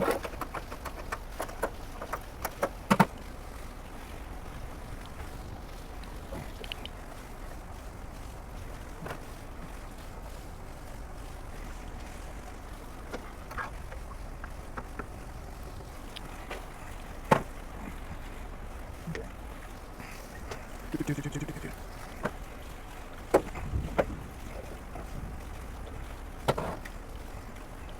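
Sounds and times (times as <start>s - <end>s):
low steady hum: 0.0s - 27.9s.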